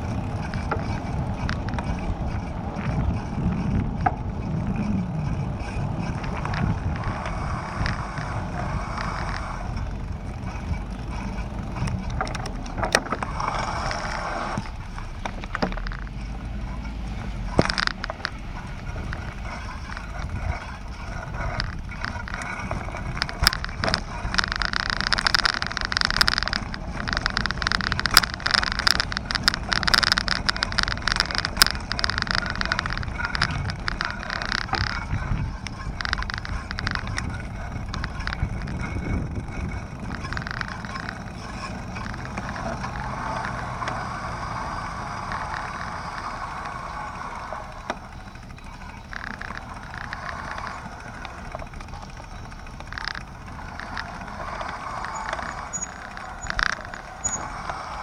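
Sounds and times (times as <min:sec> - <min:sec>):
bicycle rattling over paving stones: 0:00.0 - 0:58.0
street noise: 0:00.0 - 0:58.0.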